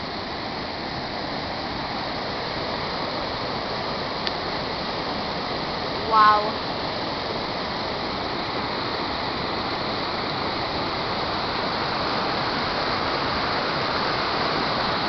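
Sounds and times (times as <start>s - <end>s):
waterfall and creek over rocks: 0.0s - 15.0s.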